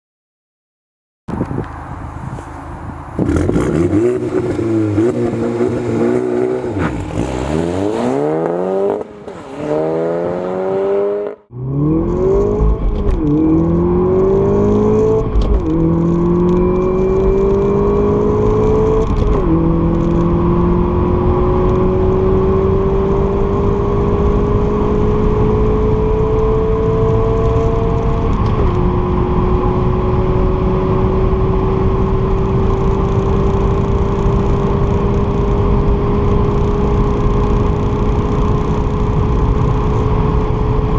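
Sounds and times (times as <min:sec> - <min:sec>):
car engine revving: 0:02.4 - 0:40.9
car accelerating through gears: 0:03.2 - 0:40.9.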